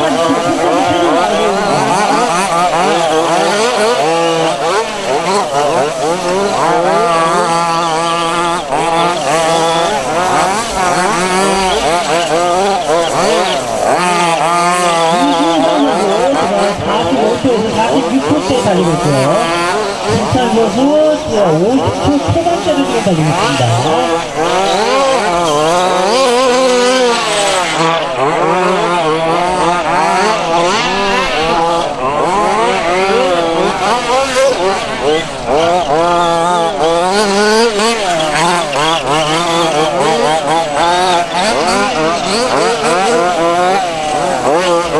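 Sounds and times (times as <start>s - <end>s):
small two-stroke engines revving: 0.0s - 44.9s.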